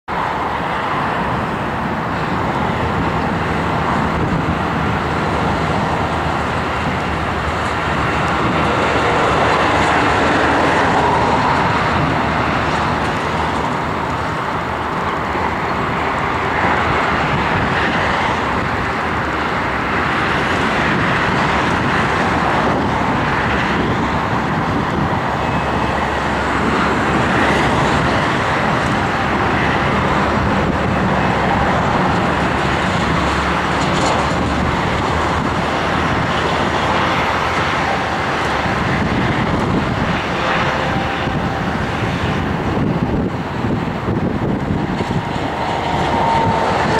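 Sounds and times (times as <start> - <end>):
loud continuous rush: 0.1 - 46.9.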